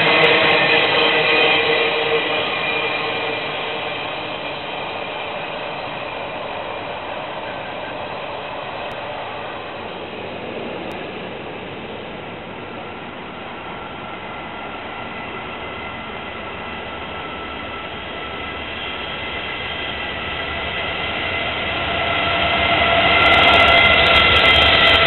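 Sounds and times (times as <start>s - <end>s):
freight train rolling on track: 0.0s - 25.0s.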